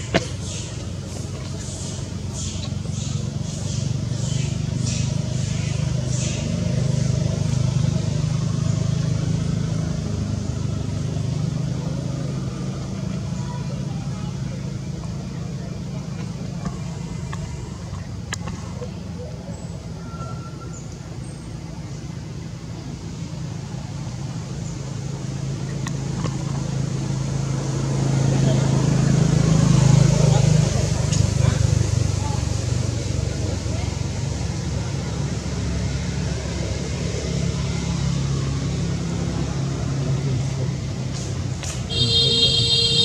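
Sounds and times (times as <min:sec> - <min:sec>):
low engine-like hum: 0:00.0 - 0:43.0.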